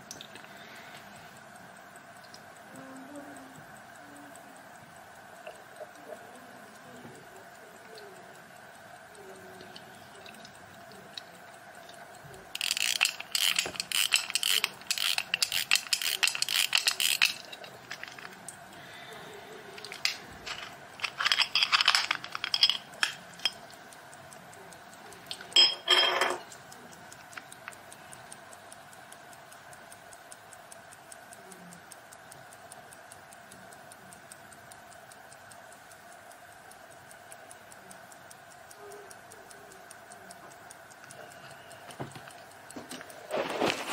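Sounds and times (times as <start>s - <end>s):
pocket watch ticking: 0.0s - 43.9s.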